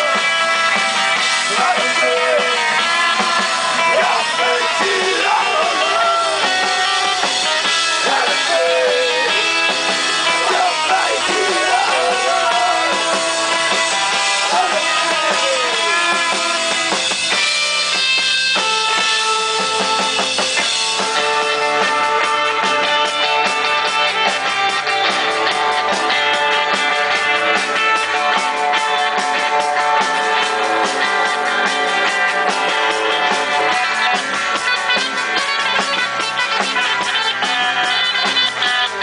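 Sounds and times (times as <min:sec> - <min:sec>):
bending guitar lead line: 0:00.0 - 0:39.0
rock band playing: 0:00.0 - 0:39.0.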